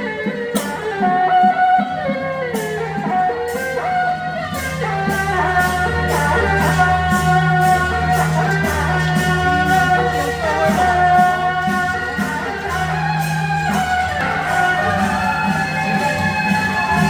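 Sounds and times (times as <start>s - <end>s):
music with singing: 0.0s - 17.0s.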